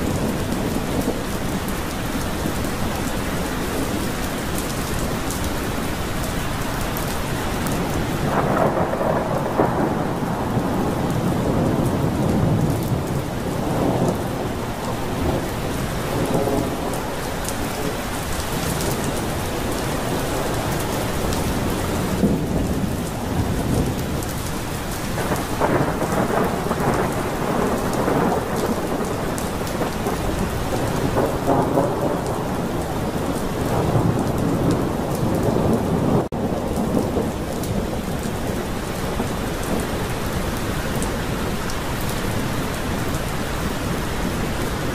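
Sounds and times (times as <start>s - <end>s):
rolling thunder: 0.0s - 5.3s, 7.0s - 43.1s
heavy rain downpour: 0.0s - 44.9s.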